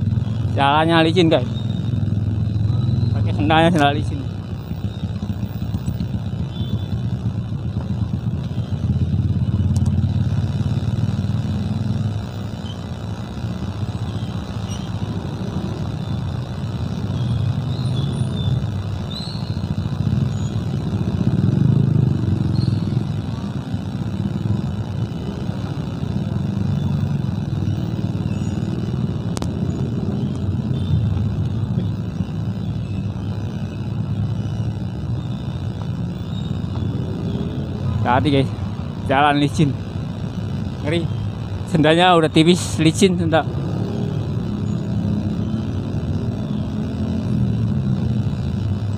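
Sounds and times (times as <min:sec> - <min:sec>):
traffic engines rumbling: 0:00.0 - 0:48.9.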